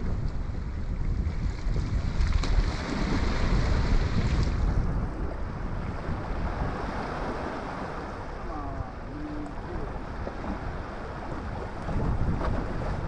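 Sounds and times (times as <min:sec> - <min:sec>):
waves washing against rocks: 0:00.0 - 0:13.0
wind buffeting microphone: 0:00.0 - 0:13.0.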